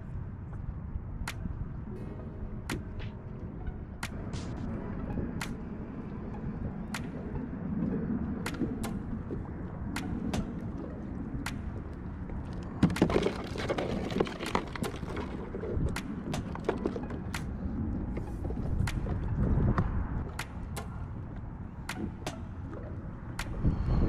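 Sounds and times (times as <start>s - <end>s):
wind rumbling on microphone: 0.0s - 24.0s
water lapping against kayak: 4.4s - 23.9s.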